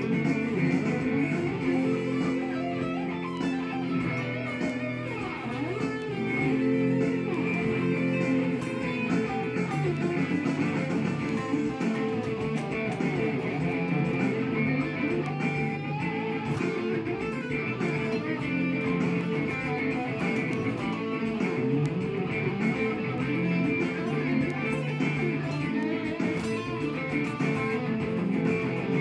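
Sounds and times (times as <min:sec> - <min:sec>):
backing track: 0:00.0 - 0:29.0
electric guitar lead improvisation: 0:00.0 - 0:29.0.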